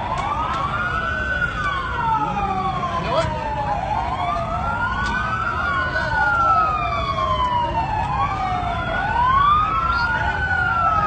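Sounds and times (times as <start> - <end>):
emergency vehicle sirens wailing: 0.0 - 11.0.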